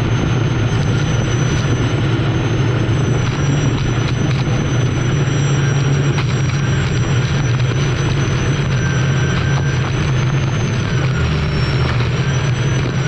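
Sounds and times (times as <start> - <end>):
high whine: 0.0 - 13.0
turbine engine rumble: 0.0 - 13.0.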